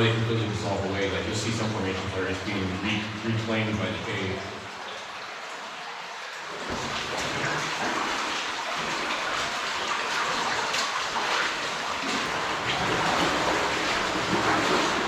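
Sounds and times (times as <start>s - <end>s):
water rushing in a cave: 0.0s - 15.0s.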